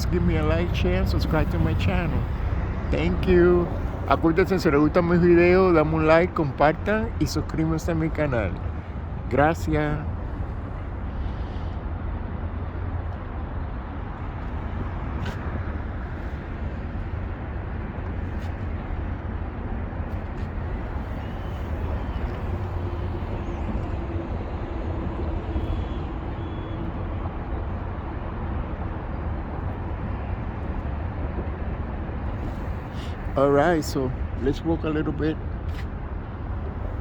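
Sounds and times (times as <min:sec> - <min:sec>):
city noise: 0:00.0 - 0:37.0
low engine rumble: 0:00.0 - 0:37.0.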